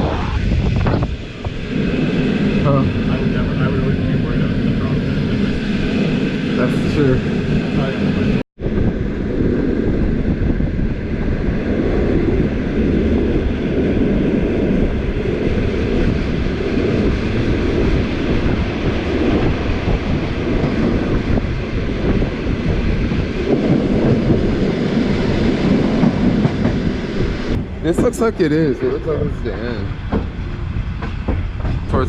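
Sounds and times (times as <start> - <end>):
train wheels rumbling on rails: 0.1 - 32.0.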